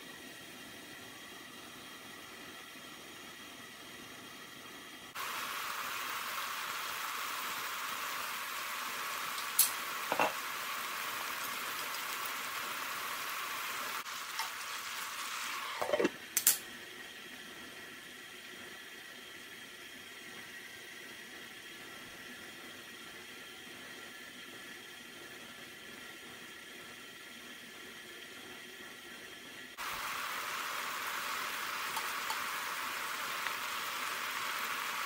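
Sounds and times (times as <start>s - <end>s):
food sizzling in pan: 0.0s - 25.1s, 29.7s - 35.0s
covered pan simmering hiss: 0.0s - 35.0s.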